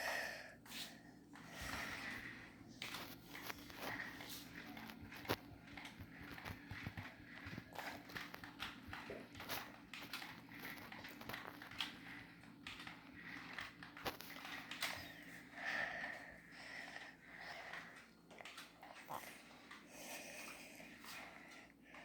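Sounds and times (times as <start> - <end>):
small clicks and rustles: 0.6 - 22.0.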